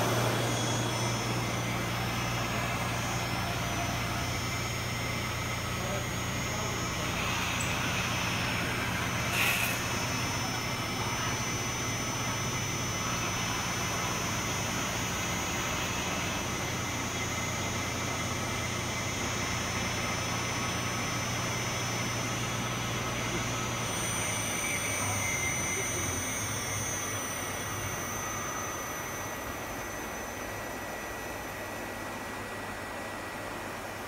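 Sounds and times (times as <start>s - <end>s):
cutting machine hum and hiss: 0.0s - 34.0s.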